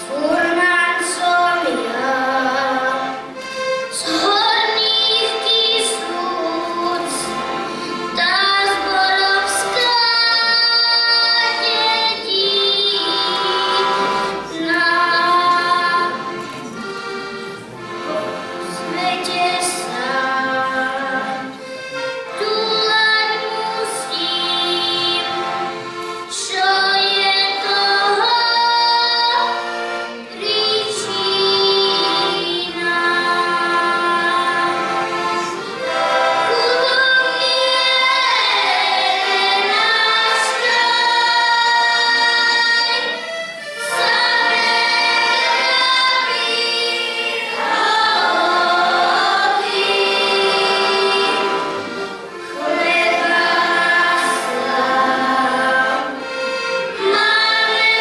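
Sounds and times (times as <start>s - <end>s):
accordion: 0.0s - 58.0s
children's group singing: 0.0s - 58.0s.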